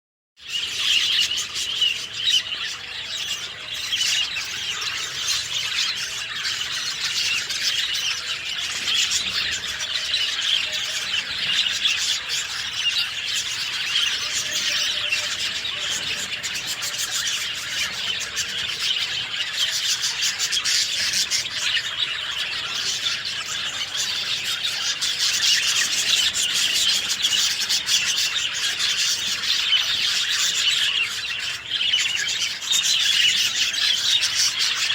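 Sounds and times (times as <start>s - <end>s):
birds chirping and singing: 0.4s - 34.9s
birds squawking: 0.5s - 34.9s.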